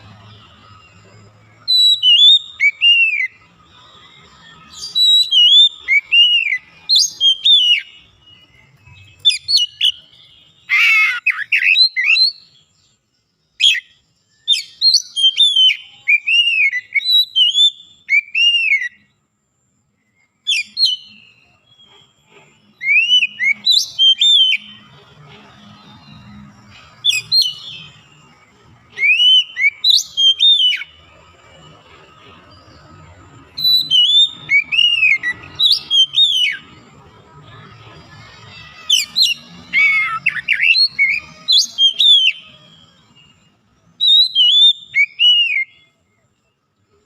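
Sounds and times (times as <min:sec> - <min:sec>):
bird whistled song: 0:00.0 - 0:19.2, 0:19.9 - 0:47.0.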